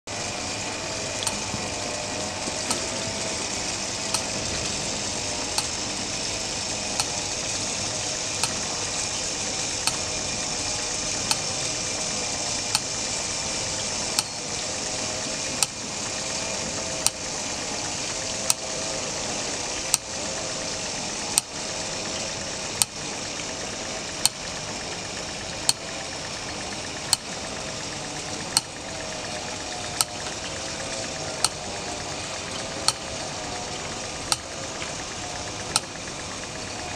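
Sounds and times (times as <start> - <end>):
mechanism hissing: 0.1 - 36.9
mechanism clicking: 1.0 - 14.6, 15.3 - 18.8, 19.8 - 20.2, 21.2 - 36.9.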